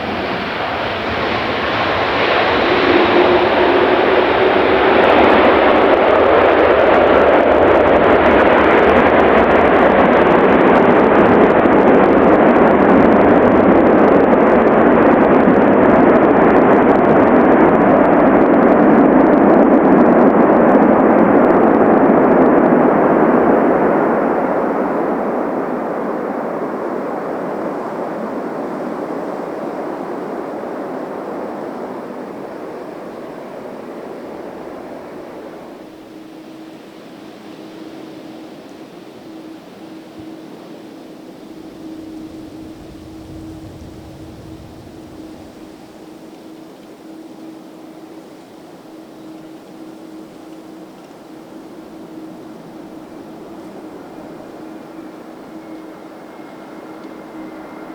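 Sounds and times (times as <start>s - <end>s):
jet engines roaring: 0.0s - 57.9s.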